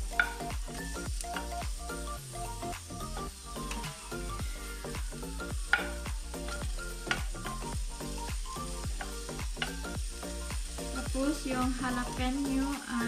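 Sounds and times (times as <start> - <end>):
background music with steady beat: 0.0 - 13.0
onion and garlic sizzling in oil: 0.0 - 13.0.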